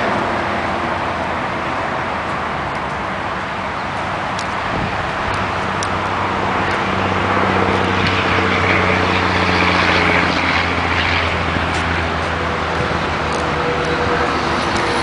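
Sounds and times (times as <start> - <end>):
vehicle engine hum and tyre noise: 0.0 - 15.0.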